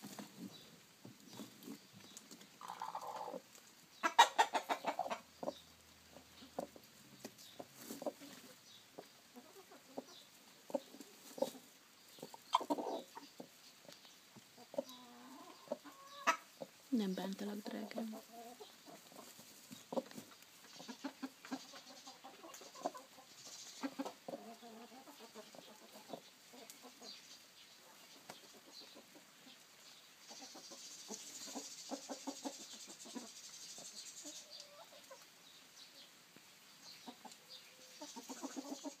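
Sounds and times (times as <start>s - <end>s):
hens clucking: 0.0s - 36.1s, 36.8s - 39.0s.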